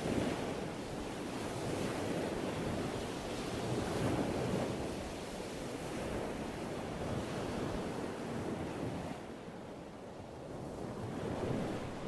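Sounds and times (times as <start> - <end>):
waves breaking and washing in: 0.0 - 12.0.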